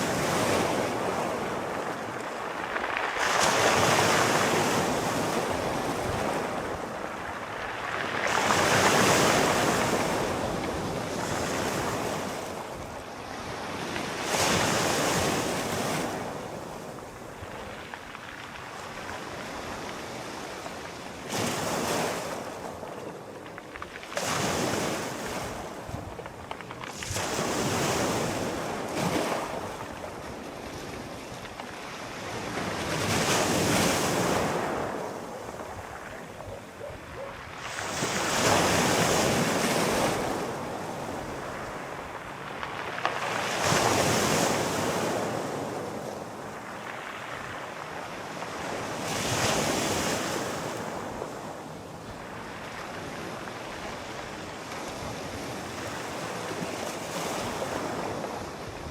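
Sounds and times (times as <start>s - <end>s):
light wind: 0.0s - 58.9s
sea waves breaking on shore: 0.0s - 58.9s.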